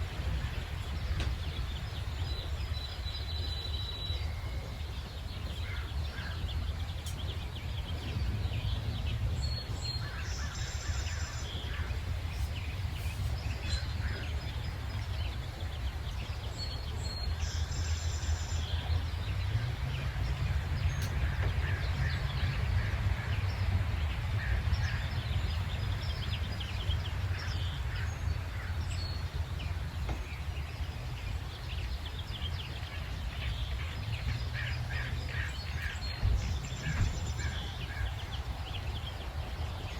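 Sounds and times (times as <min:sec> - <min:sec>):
songbirds chirping and trilling: 0:00.0 - 0:39.9
steady low rumble: 0:00.0 - 0:39.9.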